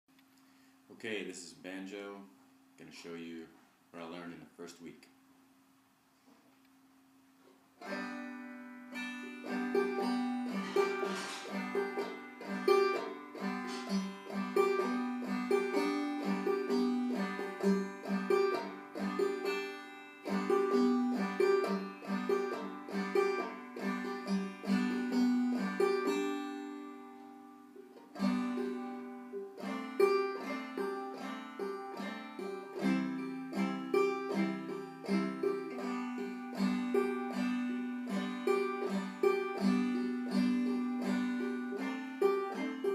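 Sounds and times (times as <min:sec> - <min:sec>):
banjo playing: 0:07.8 - 0:42.9.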